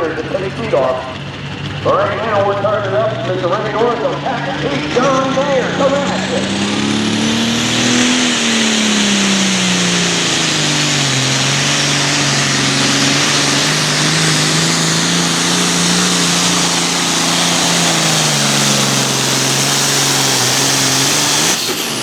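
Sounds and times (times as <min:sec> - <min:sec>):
diesel tractor engine at full throttle: 0:00.0 - 0:22.0
loud high rushing noise: 0:00.0 - 0:22.0.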